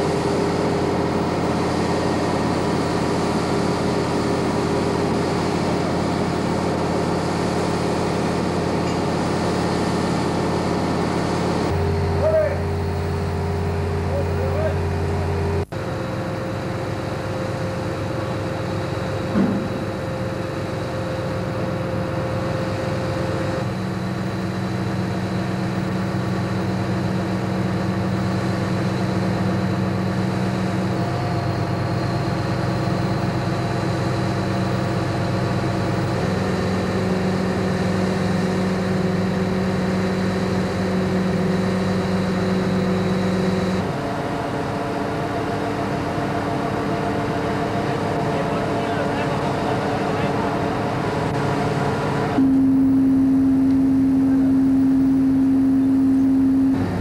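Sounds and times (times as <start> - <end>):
crane diesel engine running: 0.0 - 57.0.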